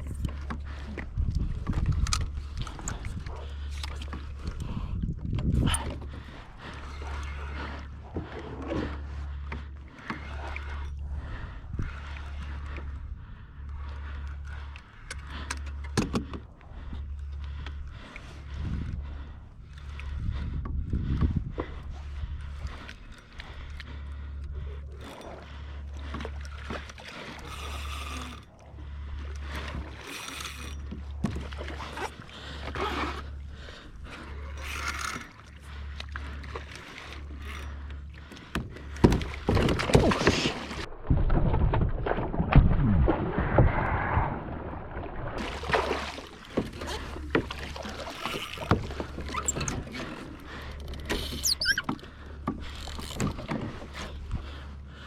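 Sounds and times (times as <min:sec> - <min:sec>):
pulsing low hum: 0:00.0 - 0:55.0
water splashing around kayak: 0:00.0 - 0:55.0.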